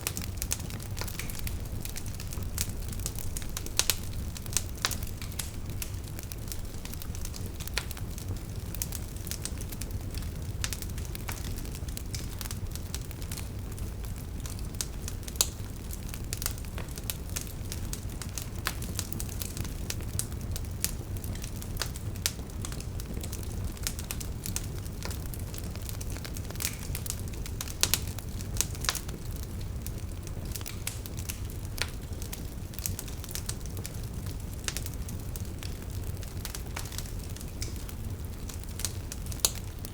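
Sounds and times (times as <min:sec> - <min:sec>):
campfire burning rumble: 0:00.0 - 0:39.9
fire pops and snaps: 0:00.0 - 0:39.9.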